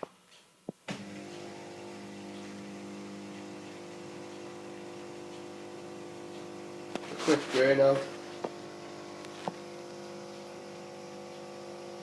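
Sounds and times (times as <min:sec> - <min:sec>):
drain pump humming: 0:00.9 - 0:12.0.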